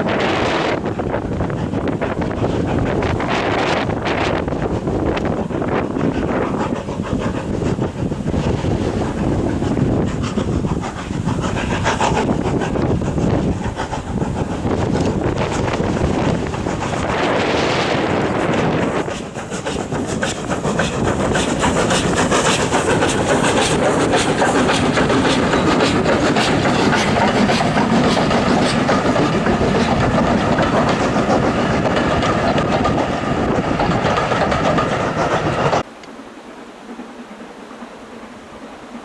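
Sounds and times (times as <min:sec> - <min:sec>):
train rumble: 0:00.0 - 0:39.0
train wheels clicking on rails: 0:00.0 - 0:39.0.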